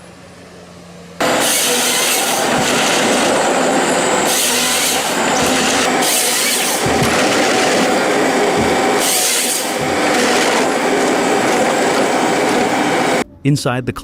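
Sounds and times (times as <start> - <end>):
harvester machinery clattering: 1.2 - 13.2.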